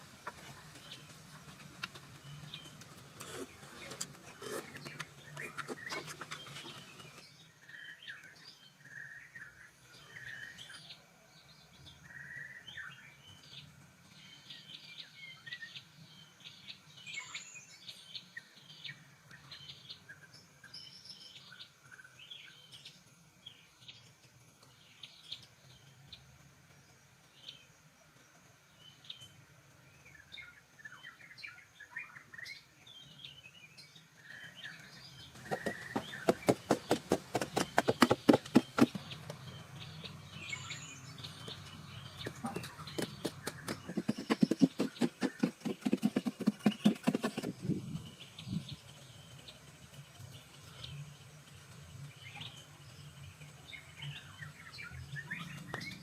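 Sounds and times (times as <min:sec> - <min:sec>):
birds chirping faintly: 0:00.0 - 0:56.0.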